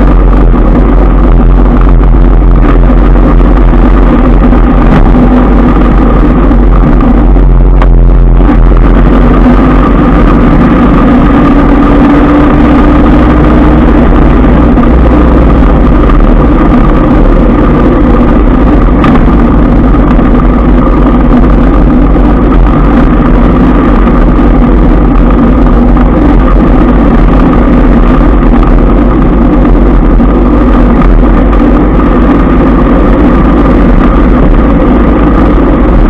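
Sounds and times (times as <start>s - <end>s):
motorbike engines humming: 0.0s - 36.0s
wind rushing over microphone: 0.0s - 36.0s.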